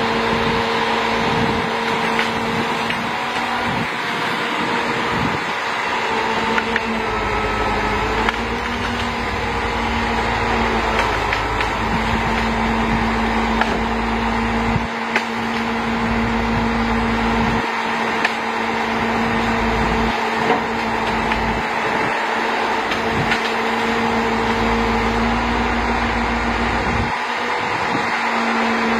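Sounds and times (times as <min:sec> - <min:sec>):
hydraulic hum: 0:00.0 - 0:28.9
truck engine rumble: 0:00.0 - 0:28.9.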